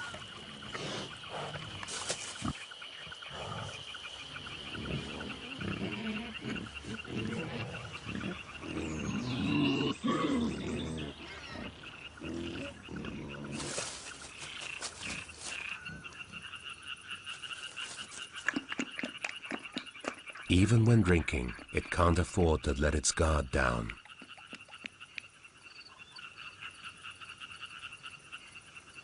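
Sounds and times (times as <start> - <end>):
deep animal calls: 0.0 - 24.9
high insect trill: 0.0 - 29.0.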